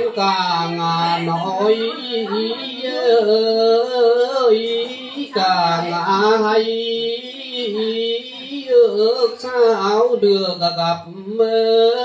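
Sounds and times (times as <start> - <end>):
person singing folk song: 0.0 - 12.0.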